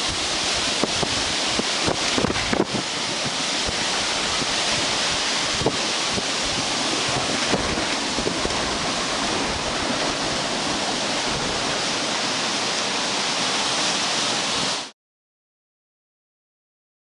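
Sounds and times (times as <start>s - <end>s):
storm wind rushing: 0.0s - 14.9s.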